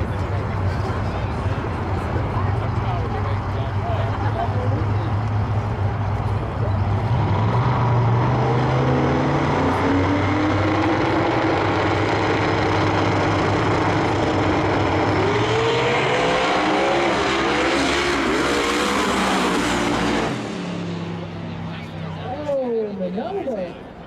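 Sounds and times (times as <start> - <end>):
drag racing cars at full throttle: 0.0 - 24.0.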